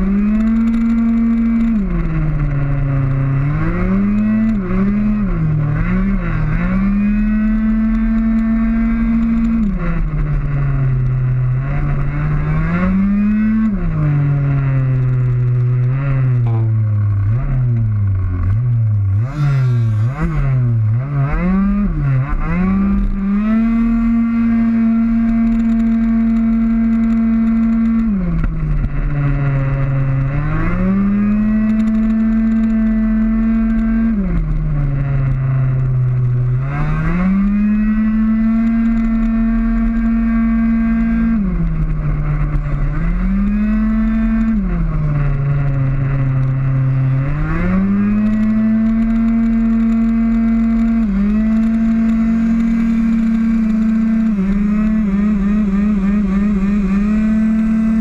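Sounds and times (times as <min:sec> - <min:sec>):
two-stroke scooter engine revving: 0:00.0 - 0:58.0.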